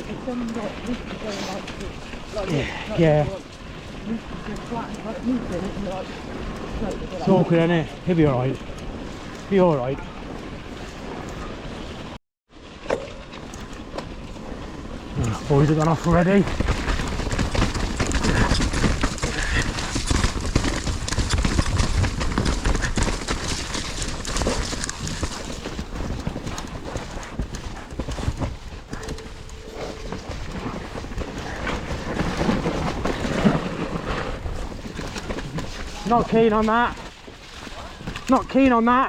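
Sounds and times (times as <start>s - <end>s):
mountain bike clattering: 0.0s - 11.9s, 12.7s - 39.0s.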